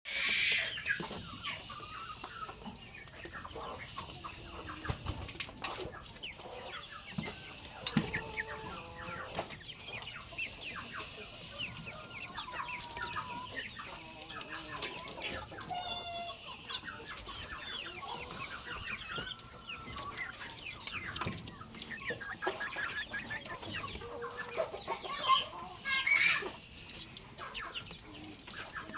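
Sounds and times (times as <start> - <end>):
chickens clucking: 0.1 - 28.9.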